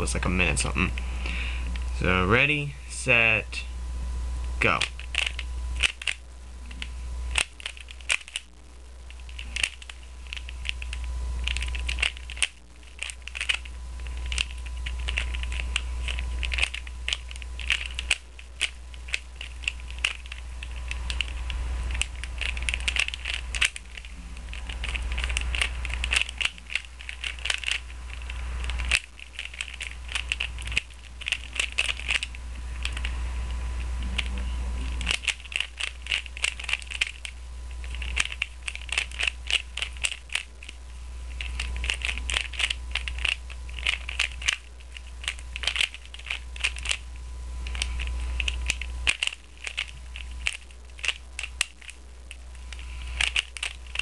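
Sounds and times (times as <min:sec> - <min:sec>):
puzzle cube plastic clicks: 0:04.7 - 0:08.5, 0:09.1 - 0:33.1, 0:35.0 - 0:40.8, 0:41.4 - 0:47.0, 0:47.6 - 0:54.0.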